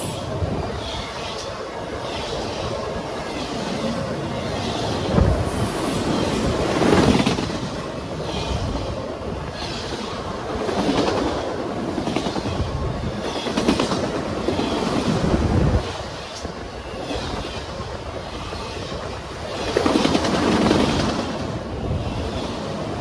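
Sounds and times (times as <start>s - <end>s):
train wheels clattering over rails: 0.0s - 23.0s.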